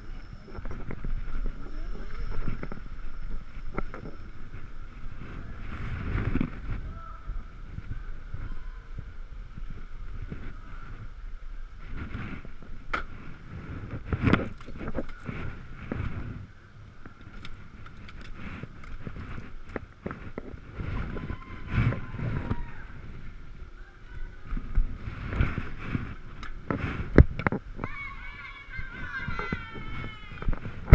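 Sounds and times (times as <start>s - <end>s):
electric scooter whine: 0.0s - 27.1s
road rumble: 0.0s - 30.9s.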